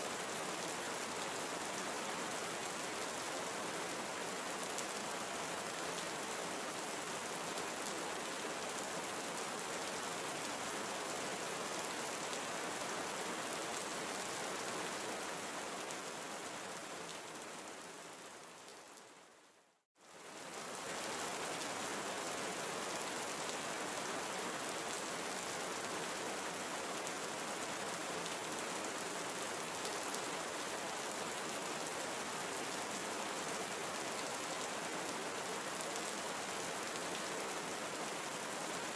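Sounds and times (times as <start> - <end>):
rainforest rain: 0.0 - 38.9.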